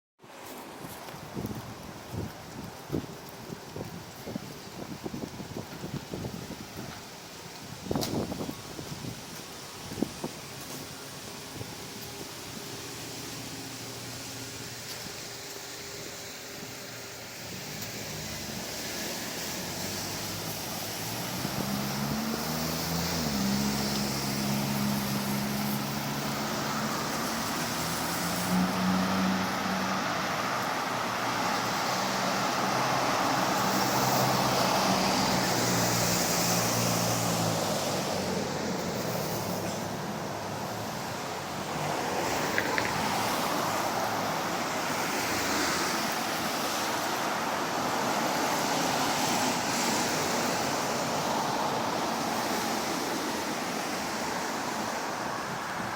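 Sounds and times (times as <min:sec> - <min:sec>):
street traffic: 0:00.2 - 0:55.9
vehicle engine running nearby: 0:00.3 - 0:55.9.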